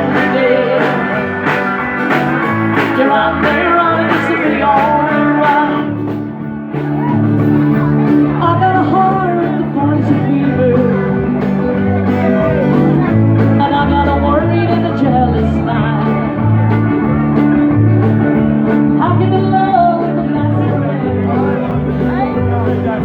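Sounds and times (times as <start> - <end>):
guitar chords: 0.0 - 23.0
melodic lead line: 0.0 - 23.0
walking bass line: 0.0 - 23.0.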